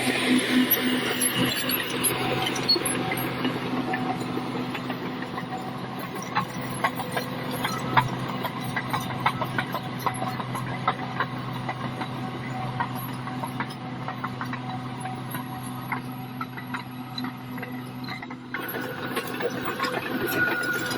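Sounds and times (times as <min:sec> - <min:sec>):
bulldozer diesel engine running: 0:00.0 - 0:20.9.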